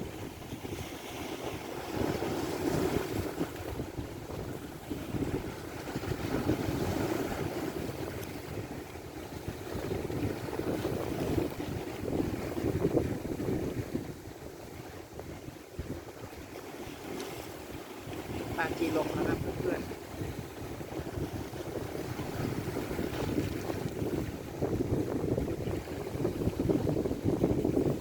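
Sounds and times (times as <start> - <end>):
waves washing around boat: 0.0 - 28.0
wind buffeting microphone: 0.0 - 28.0.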